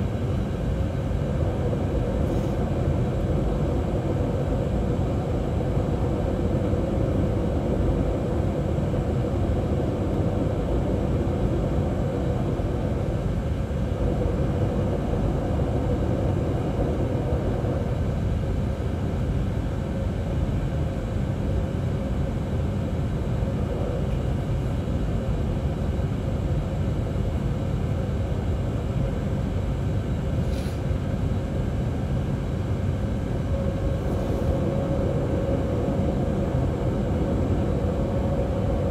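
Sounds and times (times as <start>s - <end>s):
airliner cabin rumble: 0.0s - 38.9s
mid-pitched hum: 0.0s - 38.9s.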